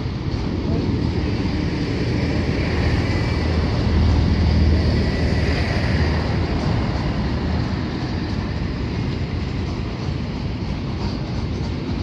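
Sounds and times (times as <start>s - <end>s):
freight wagons rumbling on rails: 0.0s - 12.0s.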